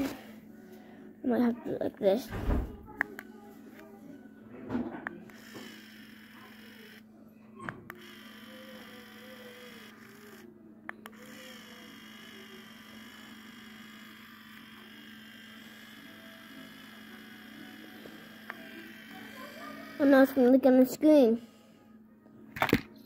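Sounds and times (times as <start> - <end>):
electric pen humming: 0.0 - 4.4, 5.0 - 22.1.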